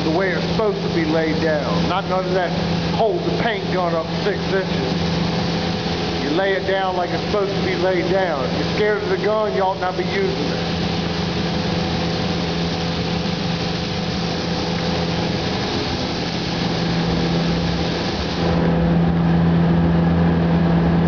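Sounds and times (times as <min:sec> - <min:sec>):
spray gun hissing: 0:00.0 - 0:18.7
low machine hum: 0:00.0 - 0:21.0.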